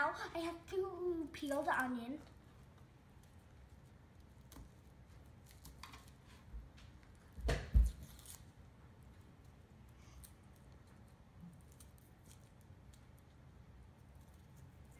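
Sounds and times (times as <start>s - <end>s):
onion skin being peeled: 1.5s - 14.9s.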